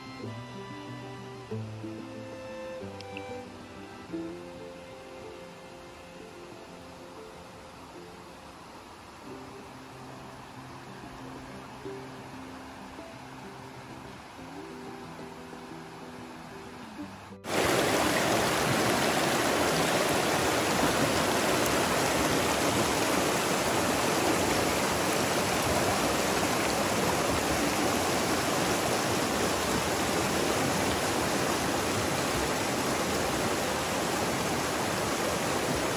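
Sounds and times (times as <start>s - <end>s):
creek rushing over rocks: 0.0s - 35.9s.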